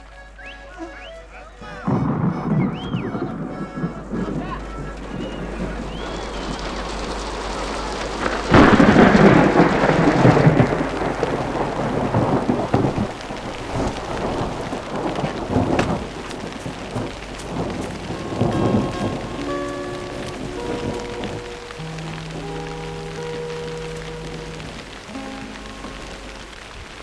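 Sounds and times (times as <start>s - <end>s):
rain hissing: 0.0s - 27.0s
thunderclap rumbling: 1.6s - 27.0s.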